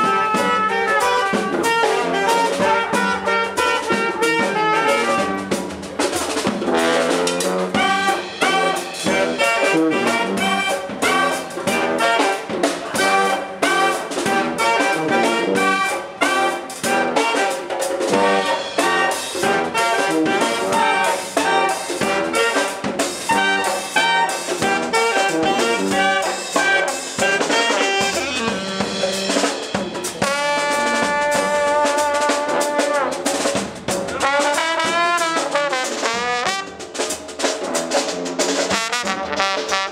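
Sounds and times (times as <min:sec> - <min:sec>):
brass band playing: 0:00.0 - 0:39.9
drum kit: 0:00.0 - 0:39.9.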